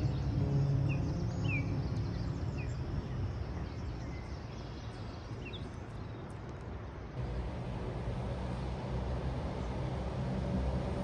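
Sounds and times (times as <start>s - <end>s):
low steady rumble: 0.0s - 5.2s, 7.1s - 11.0s.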